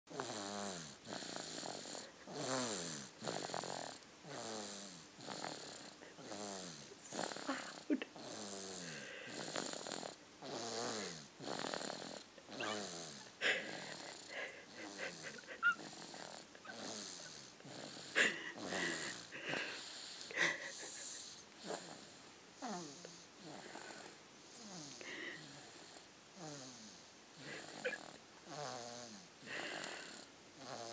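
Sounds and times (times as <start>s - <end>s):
whistling wheezy snoring: 0.2s - 30.9s.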